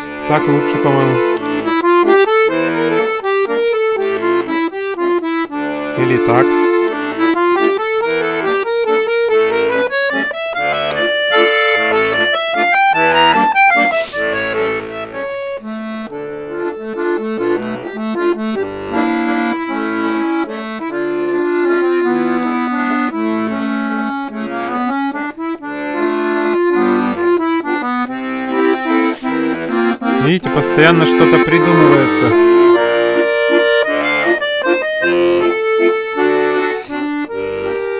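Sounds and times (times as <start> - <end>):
button accordion playing: 0.0 - 37.9.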